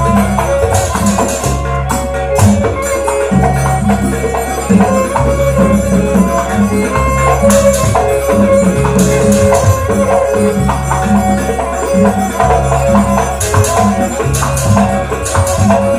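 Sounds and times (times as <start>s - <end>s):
dance music melody over percussion: 0.0s - 15.9s.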